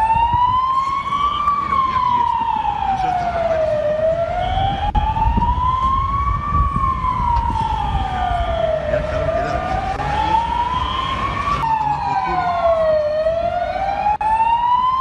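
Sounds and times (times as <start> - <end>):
emergency vehicle siren wailing: 0.0 - 15.0
faint higher siren: 0.0 - 15.0.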